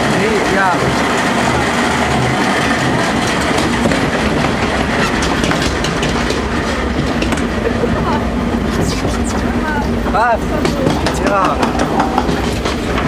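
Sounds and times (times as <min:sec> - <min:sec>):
conveyor belt clattering: 0:00.0 - 0:13.0.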